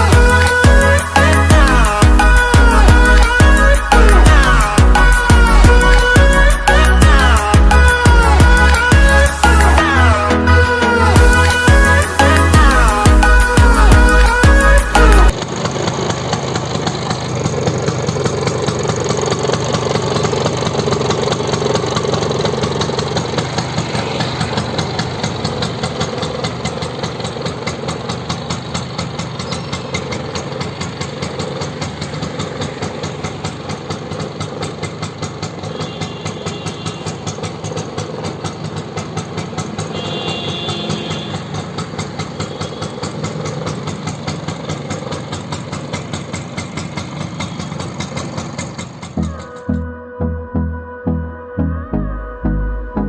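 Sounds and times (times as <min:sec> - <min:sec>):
scooter engine idling: 0:00.0 - 0:49.9.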